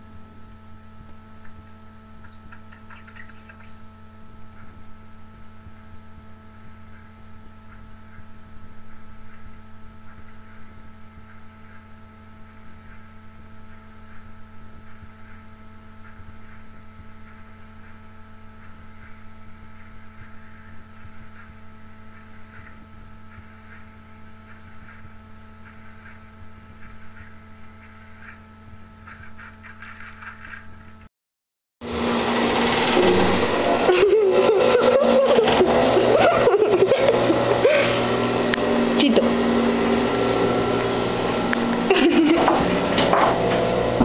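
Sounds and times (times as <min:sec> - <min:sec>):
low electrical hum: 0:00.0 - 0:31.1, 0:31.9 - 0:44.0.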